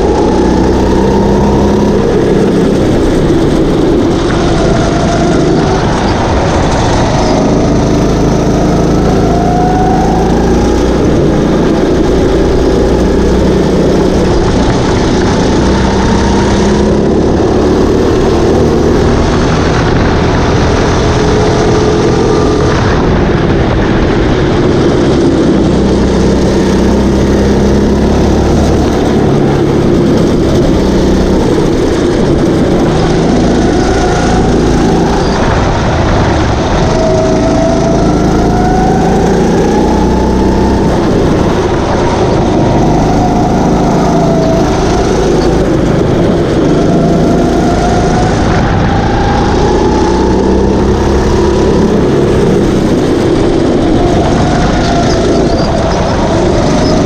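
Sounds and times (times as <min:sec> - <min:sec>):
go-kart engines revving: 0:00.0 - 0:57.0.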